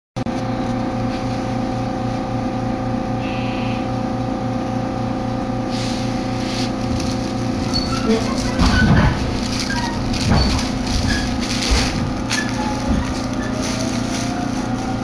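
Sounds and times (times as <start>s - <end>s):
train equipment hum: 0.5s - 15.0s.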